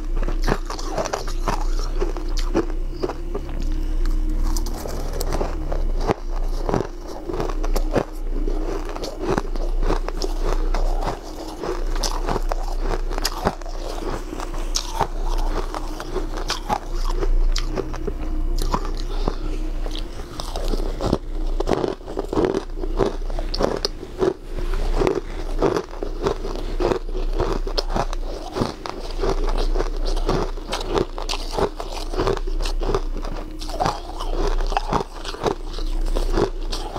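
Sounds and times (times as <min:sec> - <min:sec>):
crunching and chewing ice: 0:00.0 - 0:36.9
steady low hum: 0:00.0 - 0:36.9.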